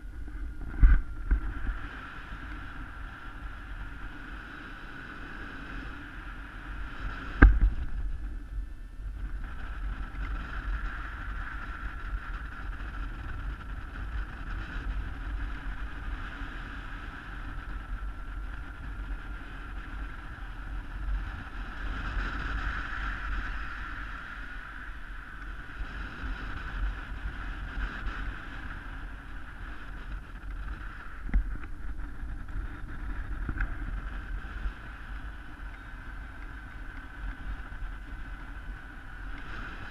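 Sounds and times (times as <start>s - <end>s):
steady high whine: 0.0s - 39.9s
wind buffeting microphone: 0.0s - 39.9s.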